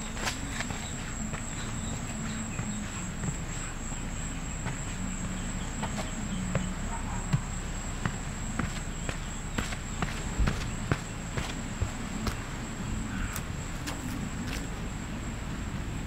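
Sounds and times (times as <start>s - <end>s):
footsteps: 0.0s - 14.7s
insects trilling: 0.0s - 16.0s.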